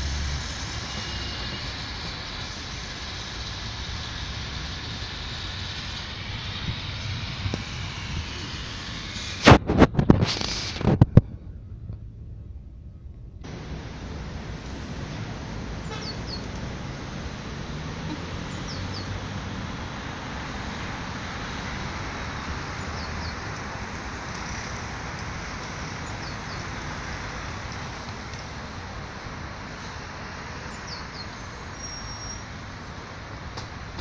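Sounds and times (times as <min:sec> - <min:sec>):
bus passing: 0:00.0 - 0:34.0
city street traffic rumble: 0:00.0 - 0:34.0.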